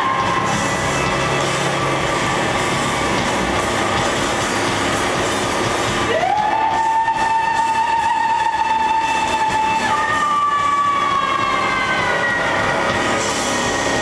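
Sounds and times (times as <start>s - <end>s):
live band playing a drone: 0.0s - 14.0s.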